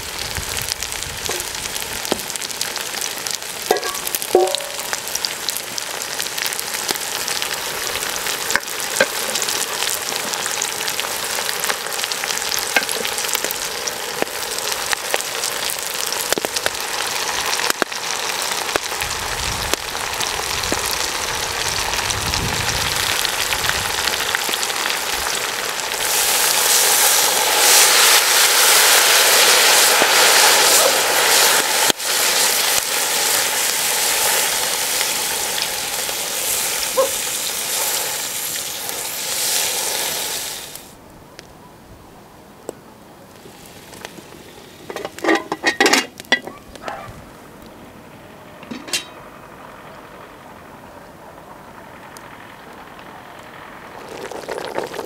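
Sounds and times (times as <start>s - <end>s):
food sizzling in hot fat: 0.0s - 41.0s, 43.3s - 50.7s, 51.7s - 55.0s
pops and crackles: 0.0s - 41.5s, 42.7s - 47.0s, 52.0s - 55.0s.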